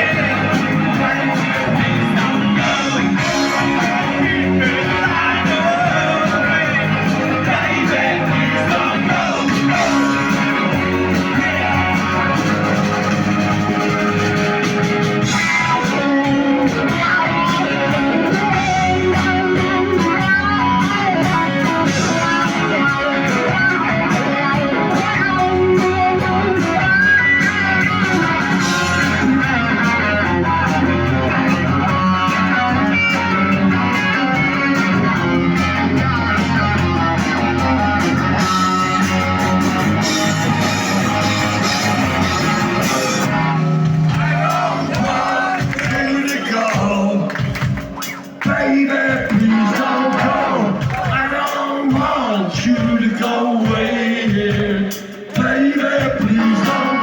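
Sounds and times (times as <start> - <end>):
instrumental rock band playing: 0.0 - 57.0.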